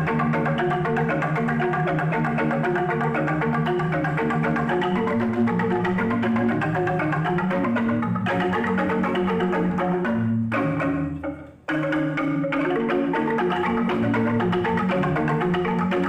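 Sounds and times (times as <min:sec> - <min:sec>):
bamboo xylophones playing: 0:00.0 - 0:16.0.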